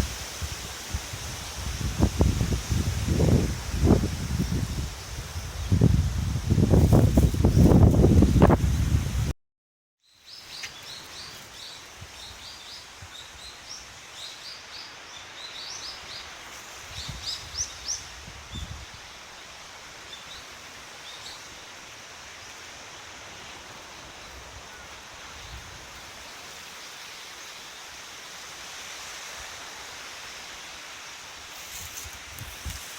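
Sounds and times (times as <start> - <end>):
background hiss: 0.0 - 9.3, 10.0 - 32.9.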